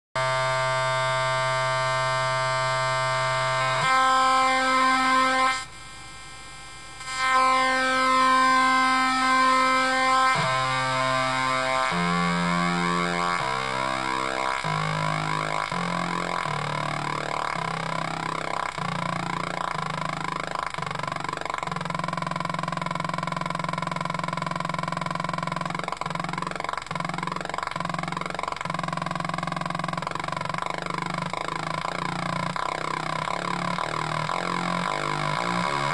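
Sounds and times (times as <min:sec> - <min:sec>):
low electronic synth tone: 0:00.2 - 0:35.9.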